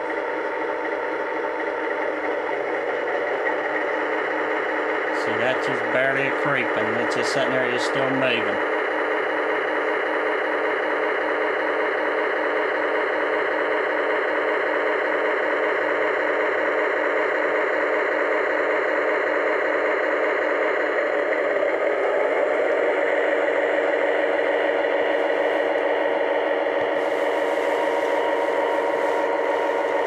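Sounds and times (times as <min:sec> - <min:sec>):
toy locomotive engine hum: 0:00.0 - 0:30.0.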